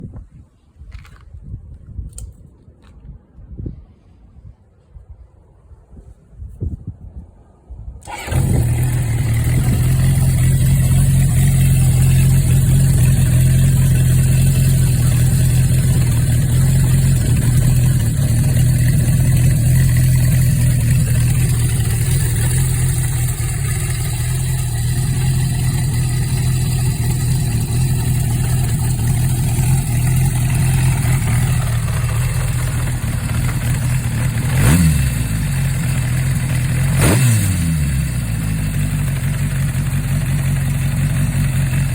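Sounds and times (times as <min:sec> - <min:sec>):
motorcycle engine idling: 0:08.0 - 0:41.9.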